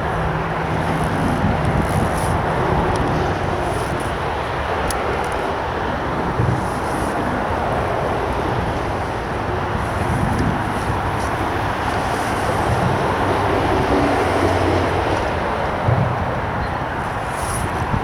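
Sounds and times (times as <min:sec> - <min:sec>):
road traffic roar: 0:00.0 - 0:18.0.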